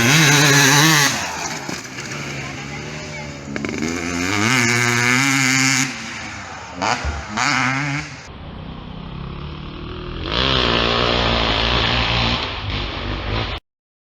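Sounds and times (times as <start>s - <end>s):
motocross engine revving: 0.0s - 13.6s.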